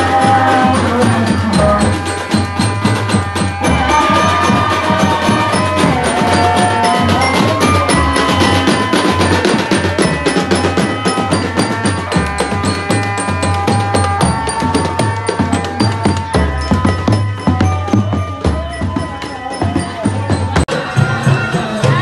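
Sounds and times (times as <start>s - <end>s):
band melody line: 0.0s - 22.0s
marching drums: 0.0s - 22.0s.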